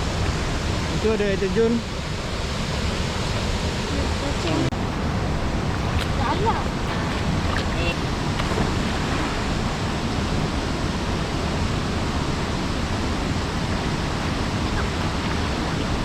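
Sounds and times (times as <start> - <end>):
waterfall and river rushing: 0.0 - 16.0.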